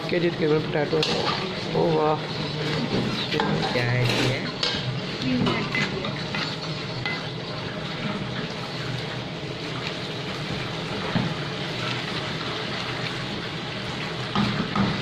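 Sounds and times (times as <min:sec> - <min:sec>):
masher squelching and scraping pot: 0:00.0 - 0:15.0.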